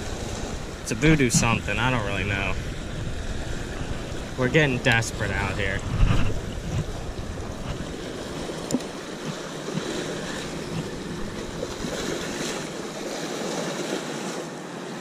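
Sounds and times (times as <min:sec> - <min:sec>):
small waves washing on shore: 0:00.0 - 0:15.0
wind: 0:00.0 - 0:15.0.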